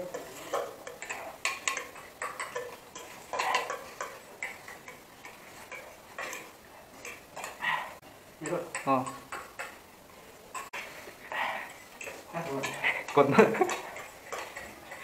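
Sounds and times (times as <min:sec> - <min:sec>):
utensils clicking against bowls: 0:00.0 - 0:15.0.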